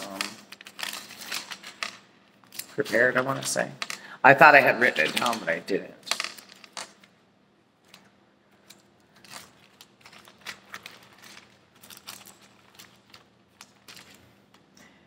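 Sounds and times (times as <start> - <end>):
pages rustling: 0.0 - 4.1, 4.8 - 7.1, 7.8 - 14.7.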